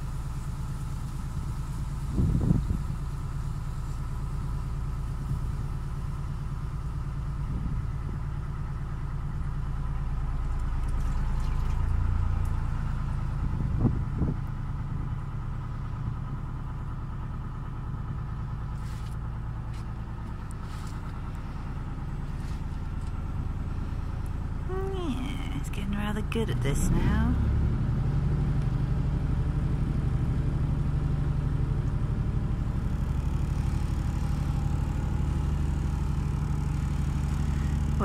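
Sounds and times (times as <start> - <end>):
diesel engine chugging: 0.0 - 38.0.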